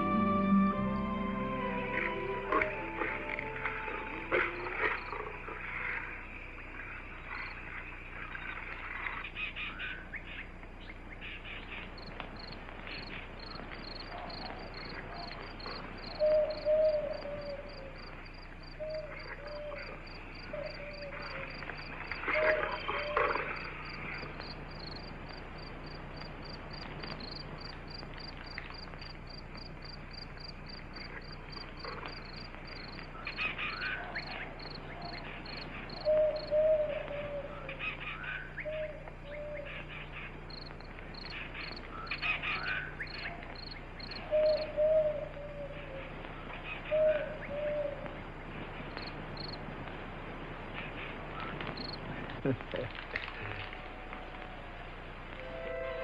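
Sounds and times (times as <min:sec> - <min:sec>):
low hooting calls: 0:00.0 - 0:49.7, 0:50.5 - 0:56.0
crickets chirping: 0:00.8 - 0:09.2, 0:11.8 - 0:52.6.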